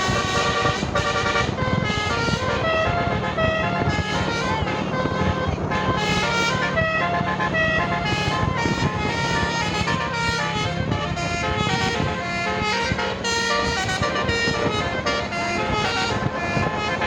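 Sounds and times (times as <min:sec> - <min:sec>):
bus engine drone: 0:00.0 - 0:17.0
musical bus horn melody: 0:00.0 - 0:17.0.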